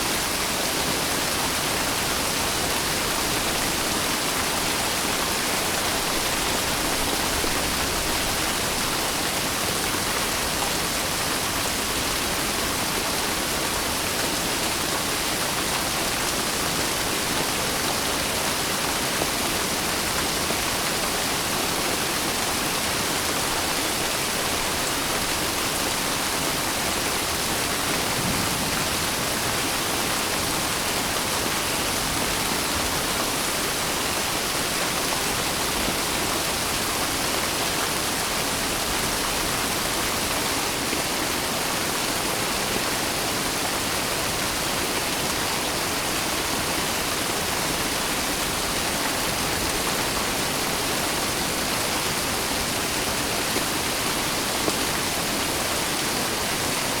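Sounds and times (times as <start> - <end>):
dense rain hiss: 0.0 - 57.0.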